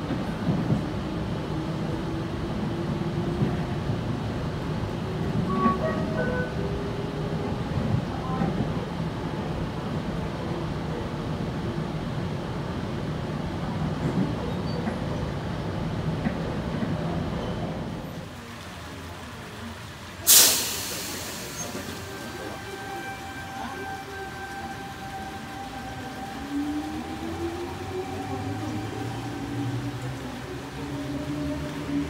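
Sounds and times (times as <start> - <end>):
wheels rumbling on track: 0.0 - 32.0.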